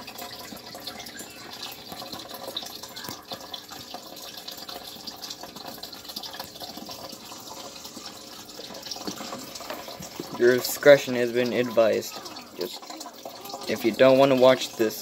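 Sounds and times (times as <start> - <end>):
water drips: 0.0 - 15.0
water trickling and splashing: 0.0 - 15.0.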